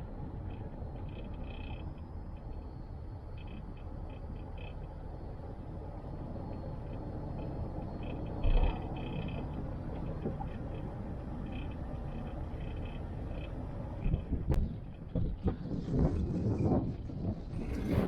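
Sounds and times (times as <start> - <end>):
car tyre and engine rumble: 0.0 - 18.0.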